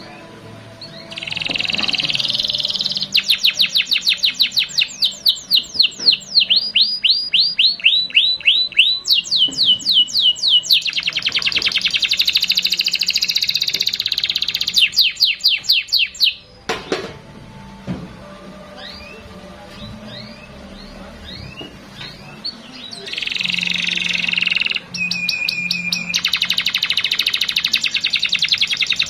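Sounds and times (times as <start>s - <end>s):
canary singing rapid trills: 0.0s - 16.6s, 18.8s - 29.0s.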